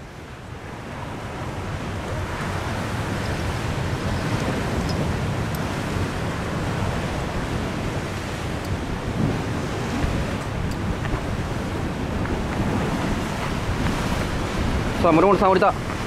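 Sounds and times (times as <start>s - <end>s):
wind buffeting microphone: 0.0s - 16.0s
surf breaking on rocks: 0.7s - 16.0s.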